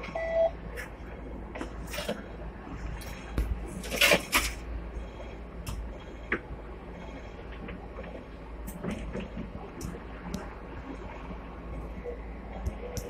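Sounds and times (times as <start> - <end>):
tram low hum: 0.0 - 13.0.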